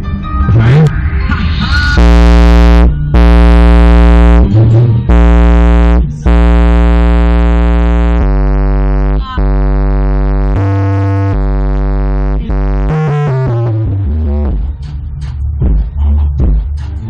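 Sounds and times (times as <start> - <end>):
loud electronic music with heavy bass: 0.3 - 17.0.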